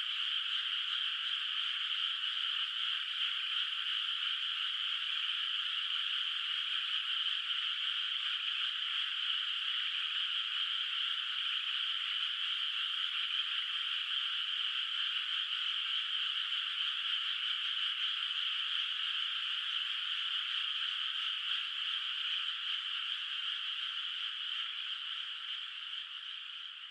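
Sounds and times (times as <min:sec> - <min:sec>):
chorus of frogs calling: 0:00.0 - 0:26.9.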